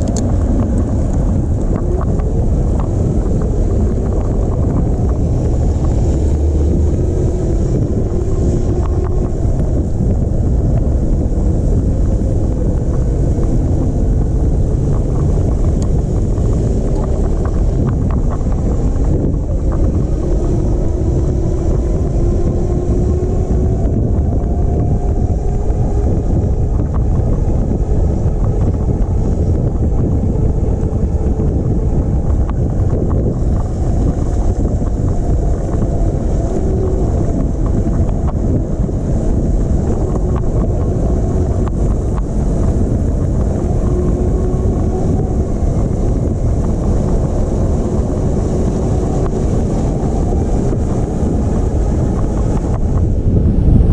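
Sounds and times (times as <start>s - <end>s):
wind rumbling on microphone: 0.0s - 53.9s.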